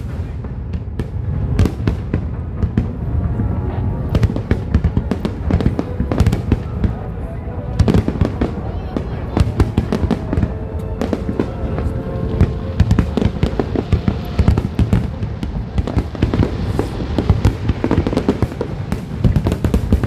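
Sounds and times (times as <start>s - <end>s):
fireworks bangs and crackling: 0.0s - 20.0s
music playing: 1.0s - 19.9s.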